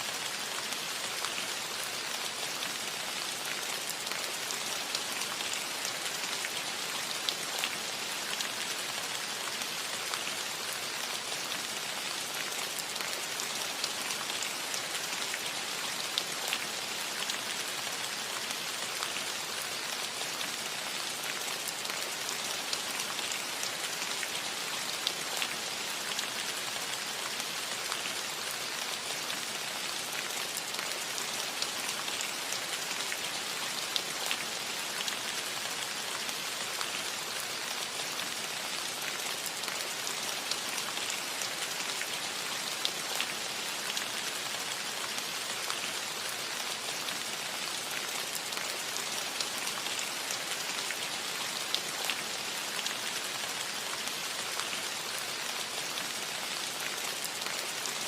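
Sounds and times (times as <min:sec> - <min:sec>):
rain on a metal roof: 0:00.0 - 0:58.0.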